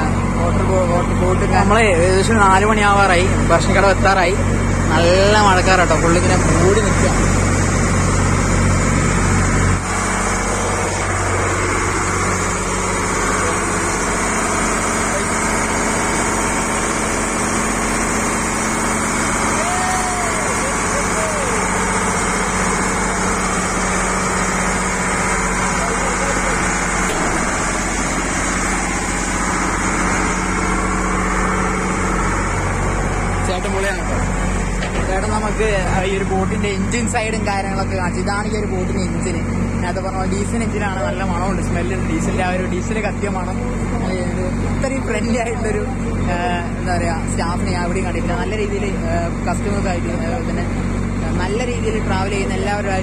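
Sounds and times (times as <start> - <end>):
boat diesel engine humming: 0.0 - 53.0.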